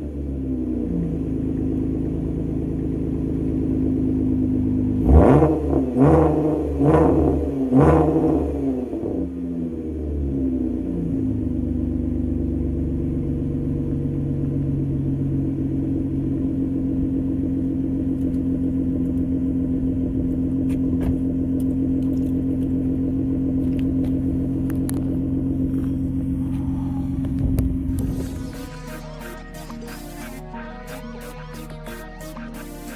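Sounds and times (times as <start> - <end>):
car engine running steadily: 0.0 - 32.9.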